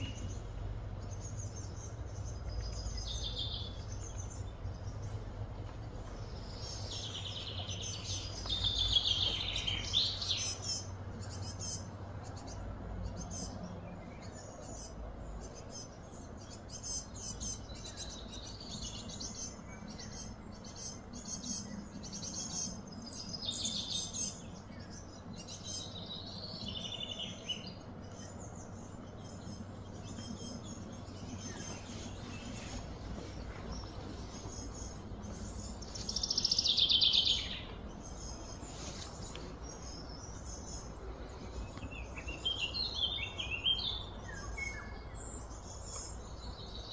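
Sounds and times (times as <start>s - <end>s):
birds chirping and trilling: 0.0s - 46.9s
low background rumble: 0.0s - 46.9s.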